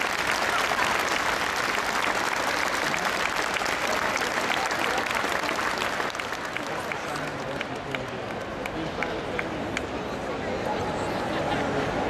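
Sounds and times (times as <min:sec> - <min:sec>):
crowd applauding: 0:00.0 - 0:09.8.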